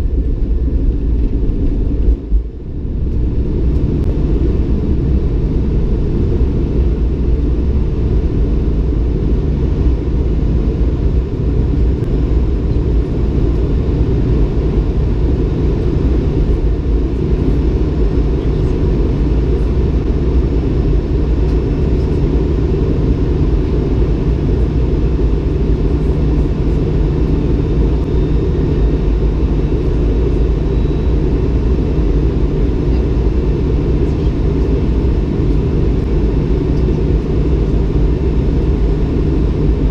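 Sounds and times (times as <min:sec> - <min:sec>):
airplane cabin rumble during takeoff: 0:00.0 - 0:39.9.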